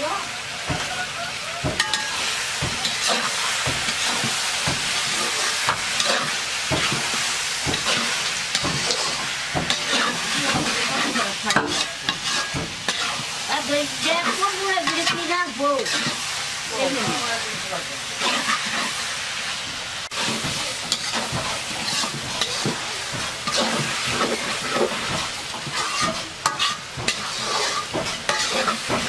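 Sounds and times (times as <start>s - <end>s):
curry sizzling in a wok: 0.0s - 29.0s
spatula scraping a wok: 0.0s - 29.0s.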